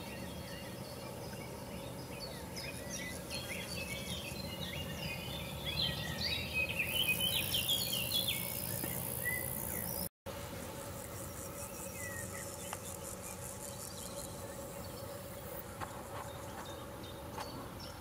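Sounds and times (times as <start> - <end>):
birds chirping and warbling: 0.0 - 10.1, 10.9 - 18.0
pulsing insect trill: 0.0 - 16.8.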